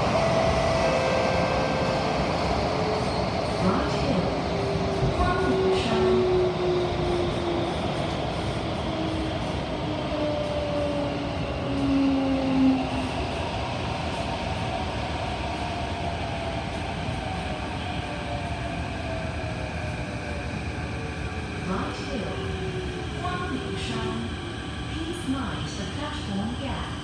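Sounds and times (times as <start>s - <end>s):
train rumble inside carriage: 0.0s - 27.0s.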